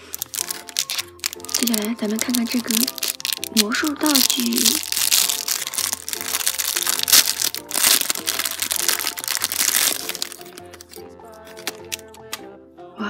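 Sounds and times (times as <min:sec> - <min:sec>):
plastic wrapper crinkling: 0:00.0 - 0:12.3
background music with simple melody: 0:00.0 - 0:13.0.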